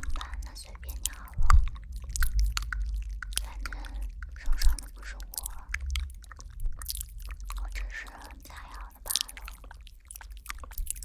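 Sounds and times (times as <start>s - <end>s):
crisp clicks and crackles: 0.0s - 11.0s.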